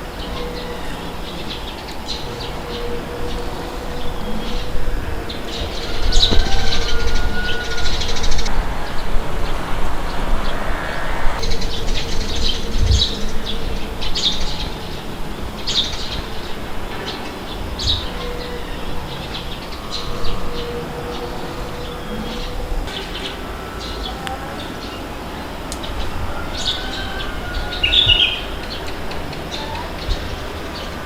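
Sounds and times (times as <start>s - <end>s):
wind blowing: 0.0s - 31.0s.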